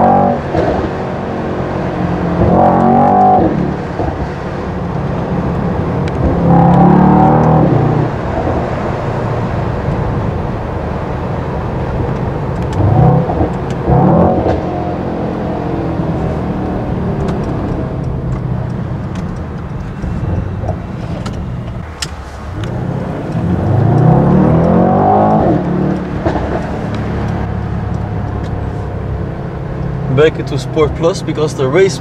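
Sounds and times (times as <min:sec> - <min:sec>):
car engine accelerating: 0:00.0 - 0:32.0
exhaust cracks: 0:00.0 - 0:32.0.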